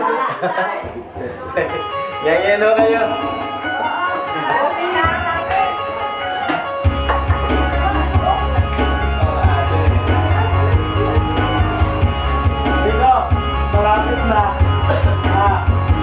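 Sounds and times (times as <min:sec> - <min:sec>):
karaoke music with guitar and bass: 0:00.0 - 0:16.0.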